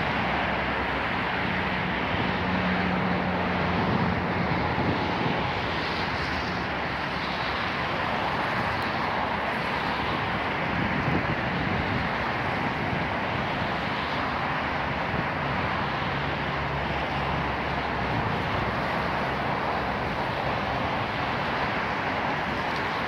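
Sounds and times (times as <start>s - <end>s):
city road traffic: 0.0s - 23.0s
low engine hum: 0.0s - 23.0s.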